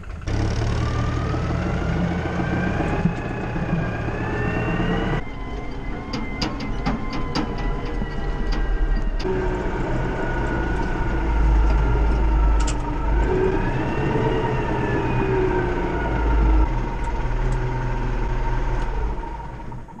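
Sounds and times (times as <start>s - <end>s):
tractor engine drone: 0.0s - 20.0s.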